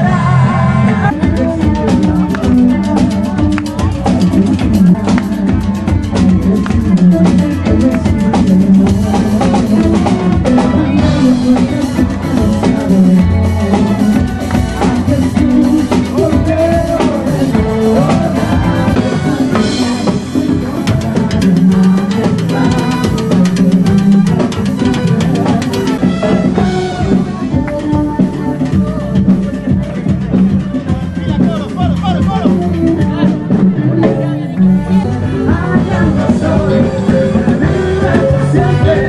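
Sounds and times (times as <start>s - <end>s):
drum kit beat: 0.0s - 39.0s
live band music: 0.0s - 39.0s.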